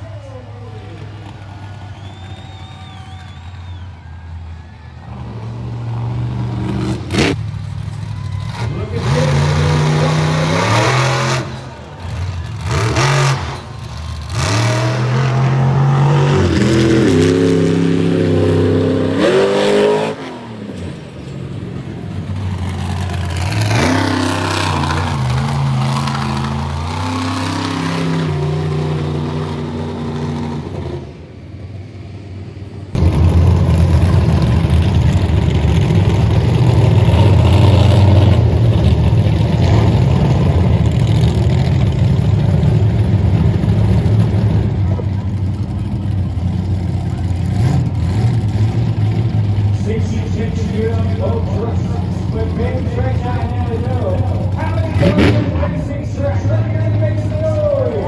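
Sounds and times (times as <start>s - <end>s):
monster truck engine revving: 0.0s - 32.2s, 32.9s - 58.0s
deep engine rumble: 0.0s - 58.0s.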